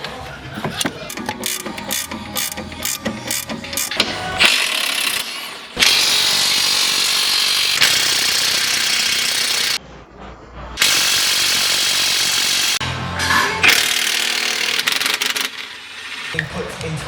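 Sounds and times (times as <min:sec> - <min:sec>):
power tool hammering rapidly: 0:00.8 - 0:09.8, 0:10.8 - 0:12.8, 0:13.7 - 0:16.4.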